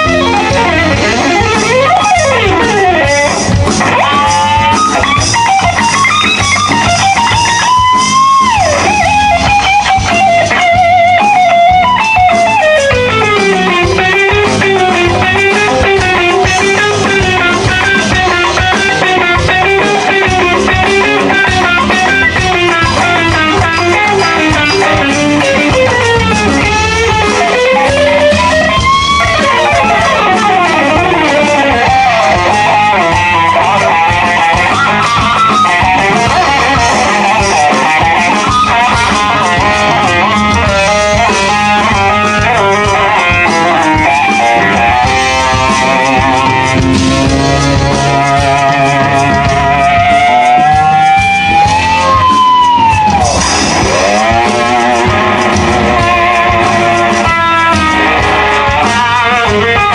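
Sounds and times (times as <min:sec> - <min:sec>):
electric guitar solo: 0:00.0 - 0:59.9.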